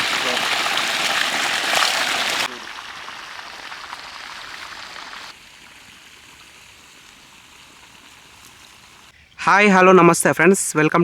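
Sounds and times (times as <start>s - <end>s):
rushing hissing water: 0.0s - 9.1s.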